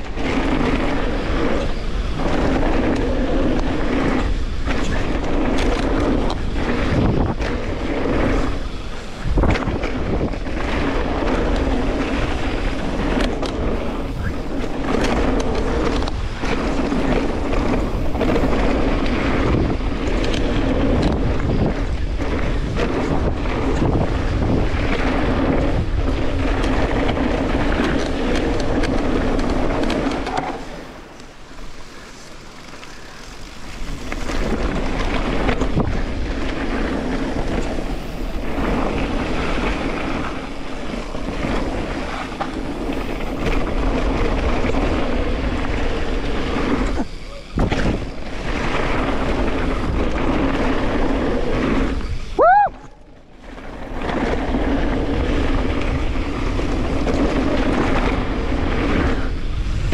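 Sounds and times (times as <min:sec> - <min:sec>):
bike tyres rumbling on dirt: 0:00.0 - 0:59.9
wind buffeting microphone: 0:00.0 - 0:59.9.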